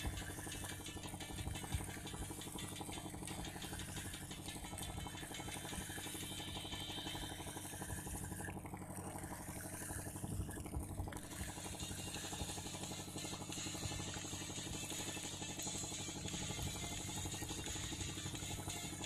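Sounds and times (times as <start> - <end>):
generator engine humming: 0.0 - 19.0.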